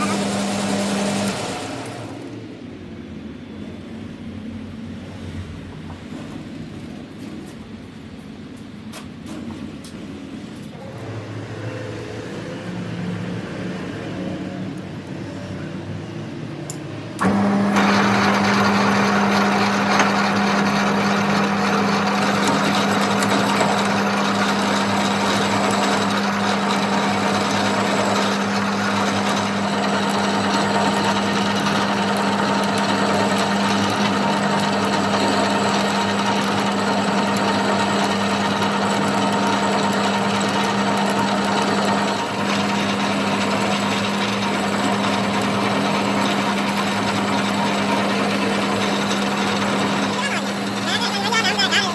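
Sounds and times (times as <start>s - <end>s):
workshop machine humming: 0.0s - 4.0s, 9.2s - 51.9s.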